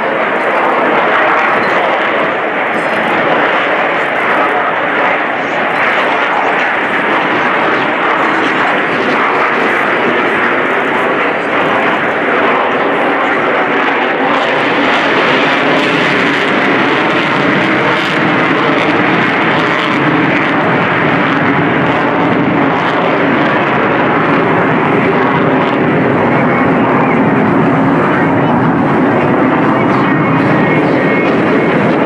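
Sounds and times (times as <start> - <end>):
jet engine with afterburner: 0.0 - 32.0.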